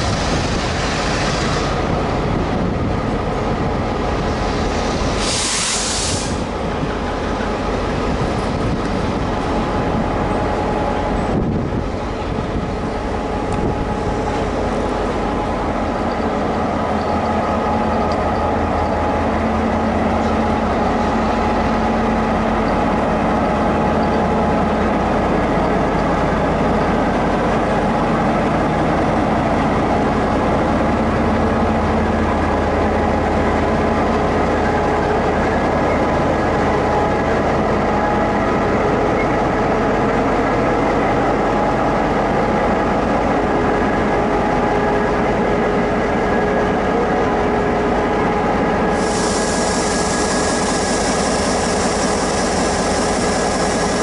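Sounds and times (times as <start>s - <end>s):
locomotive engine drone: 0.0s - 54.0s.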